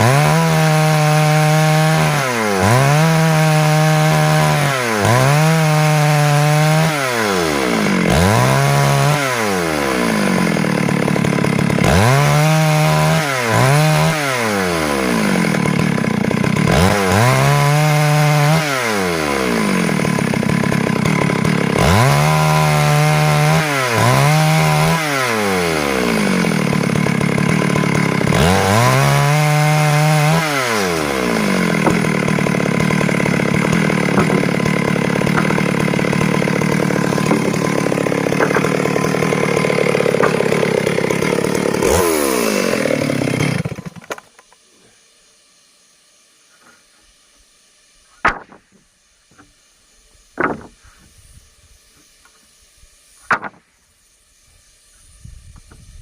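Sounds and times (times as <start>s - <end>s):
chainsaw sawing wood: 0.0s - 56.0s.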